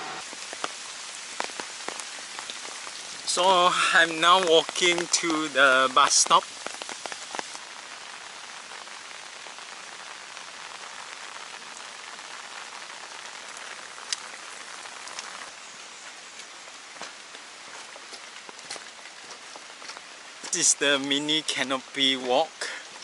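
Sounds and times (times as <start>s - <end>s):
steady rain hiss: 0.0s - 23.0s
water dripping: 0.2s - 23.0s.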